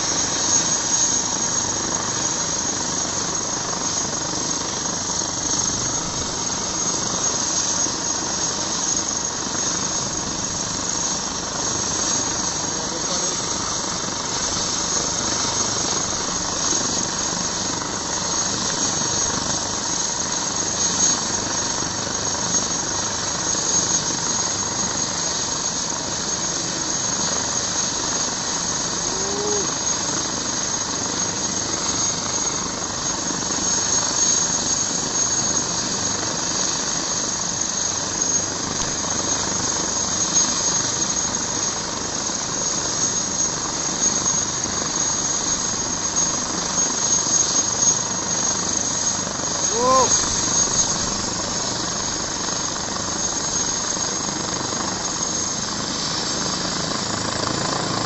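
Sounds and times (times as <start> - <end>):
constant rushing noise: 0.0 - 58.0
helicopter turbine whine: 0.0 - 58.0.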